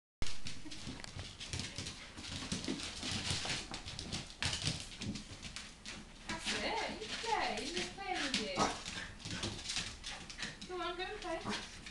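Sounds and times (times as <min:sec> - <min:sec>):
dogs playing: 0:00.3 - 0:11.9
scuffling and light knocks: 0:00.4 - 0:11.9.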